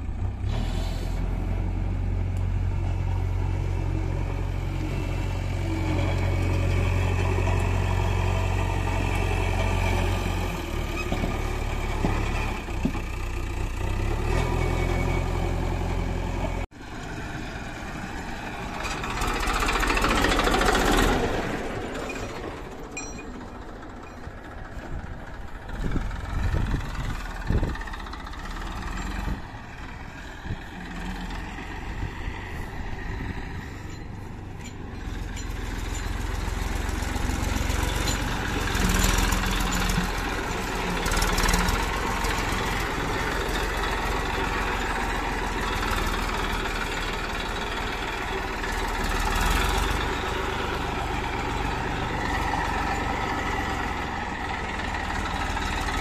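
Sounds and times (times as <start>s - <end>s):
diesel engine throbbing: 0.0s - 56.0s
tractor pulling loaded trolley: 0.0s - 56.0s.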